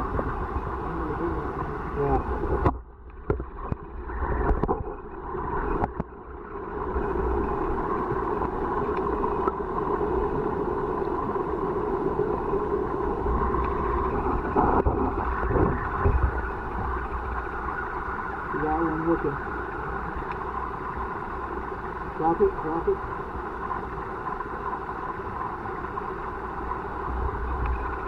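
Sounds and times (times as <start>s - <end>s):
muffled underwater water rumble: 0.0s - 28.0s.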